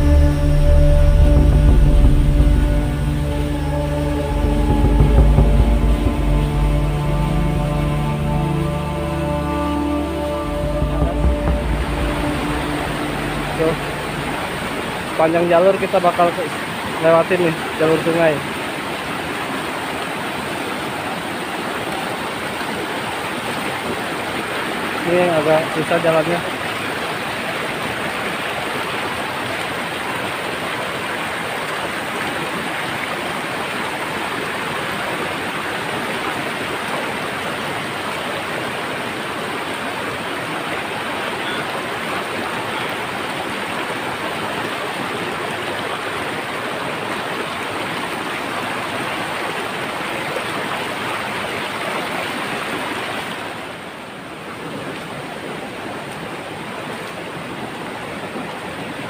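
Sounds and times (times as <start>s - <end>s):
stream rushing over boulders: 0.0s - 59.0s.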